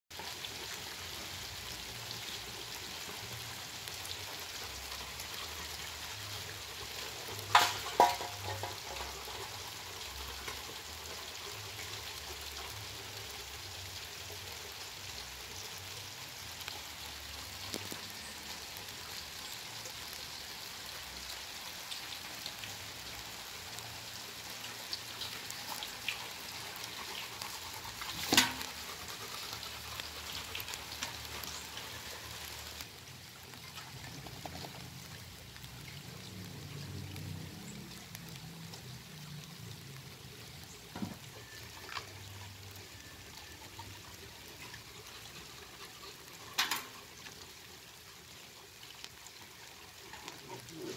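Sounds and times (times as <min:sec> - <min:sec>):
rain pattering on concrete: 0:00.1 - 0:50.9.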